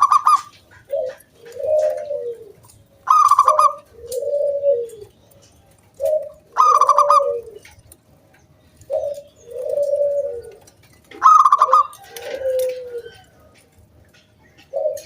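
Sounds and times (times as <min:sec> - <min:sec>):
zebra dove cooing: 0:00.0 - 0:07.9, 0:08.7 - 0:15.0.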